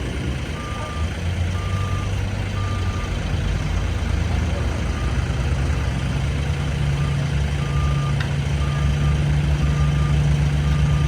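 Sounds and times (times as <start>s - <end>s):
diesel engine hum: 0.0s - 11.0s
truck reversing alarm beeps: 0.2s - 3.3s, 4.2s - 5.9s, 6.8s - 11.0s.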